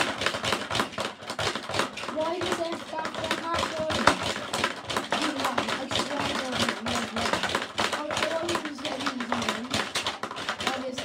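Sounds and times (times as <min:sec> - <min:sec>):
plastic game clacking and rattling: 0:00.0 - 0:11.0.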